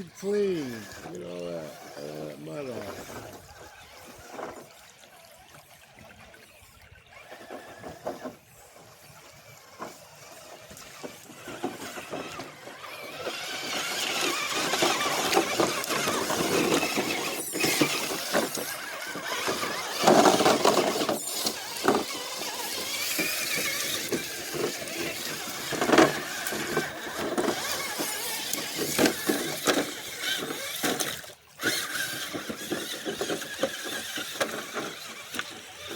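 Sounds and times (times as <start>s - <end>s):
rc car motor and gears whining: 0.0s - 35.9s.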